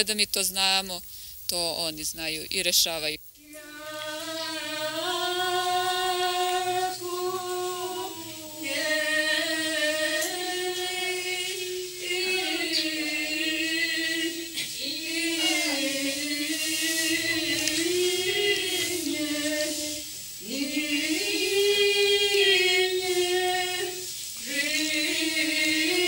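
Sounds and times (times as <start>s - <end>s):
voices chanting unaccompanied: 3.4s - 26.0s.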